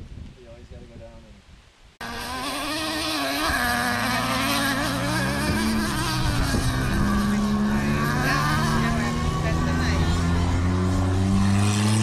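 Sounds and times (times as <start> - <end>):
small engine revving: 2.0 - 12.0.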